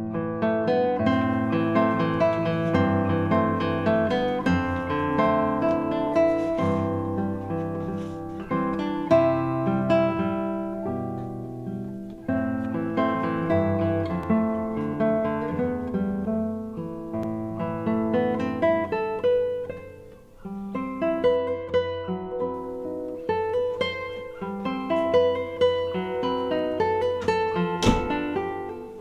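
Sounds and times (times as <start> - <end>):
acoustic guitar plucked notes: 0.0 - 29.0.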